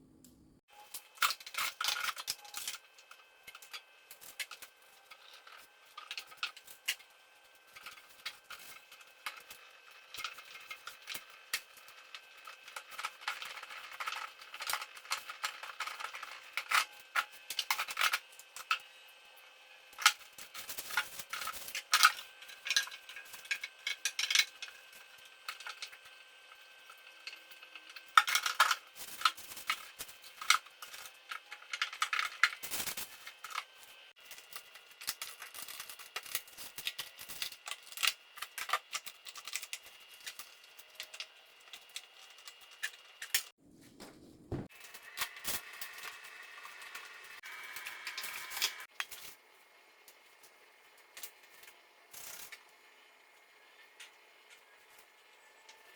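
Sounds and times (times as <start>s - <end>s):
items clicking and knocking in fridge: 0.8s - 18.9s, 20.0s - 49.4s.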